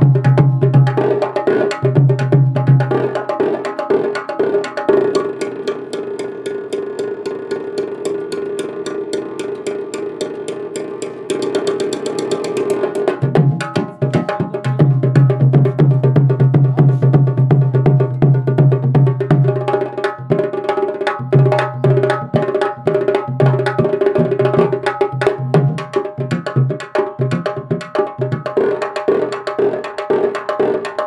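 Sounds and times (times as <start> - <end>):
kettle drums beaten fast: 0.0 - 31.0.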